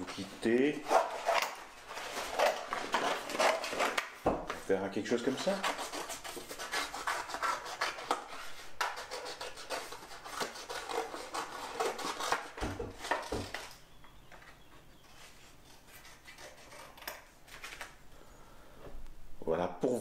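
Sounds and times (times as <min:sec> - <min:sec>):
paper rustling: 0:00.0 - 0:13.8, 0:15.1 - 0:18.0.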